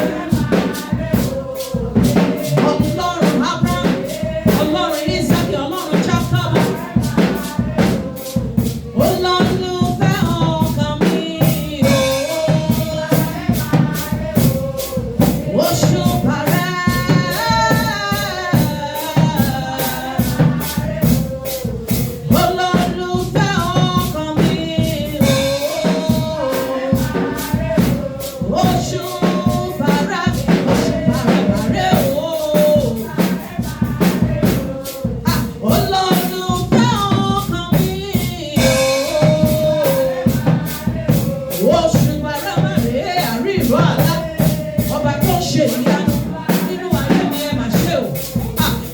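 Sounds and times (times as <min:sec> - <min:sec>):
fast percussion beat: 0:00.0 - 0:48.9
person singing: 0:00.0 - 0:48.9.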